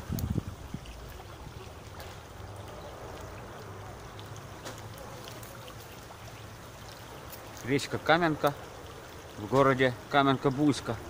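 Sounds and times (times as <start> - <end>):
river water rippling: 0.0 - 11.0.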